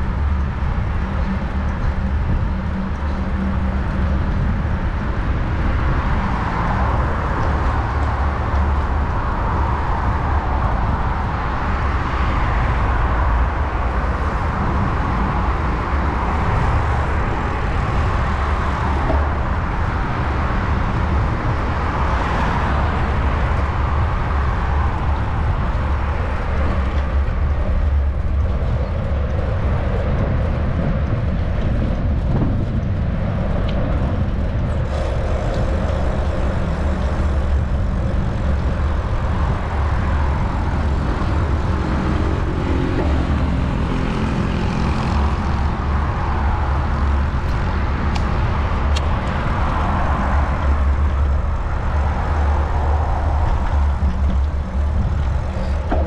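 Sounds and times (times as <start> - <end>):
cars driving by: 0.0 - 56.0
low traffic rumble: 0.0 - 56.0.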